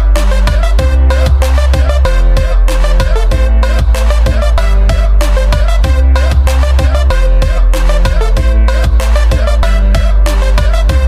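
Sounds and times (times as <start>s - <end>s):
dance music with heavy bass: 0.0s - 11.0s.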